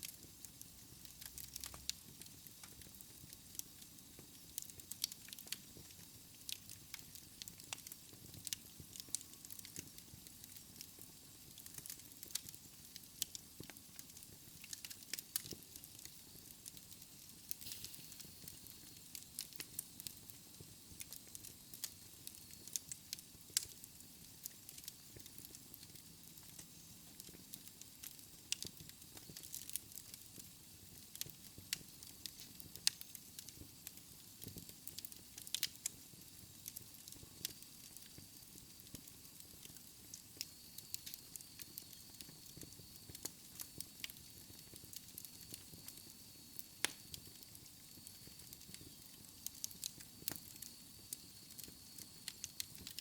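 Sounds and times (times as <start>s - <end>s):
flames hissing: 2.0s - 53.0s.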